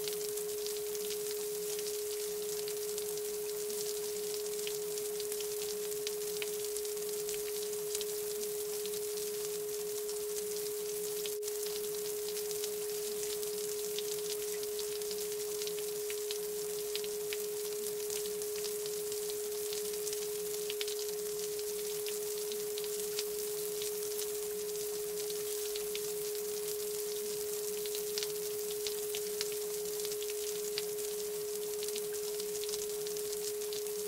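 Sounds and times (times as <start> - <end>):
faint ticks: 0.0 - 34.0.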